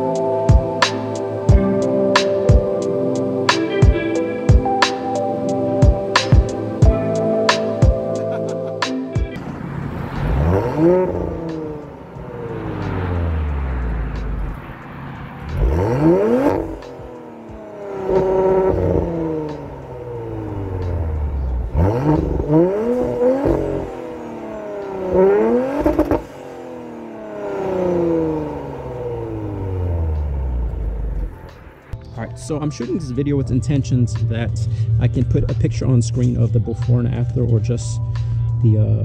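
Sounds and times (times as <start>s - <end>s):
car engine revving: 0.0s - 32.0s, 33.4s - 39.0s.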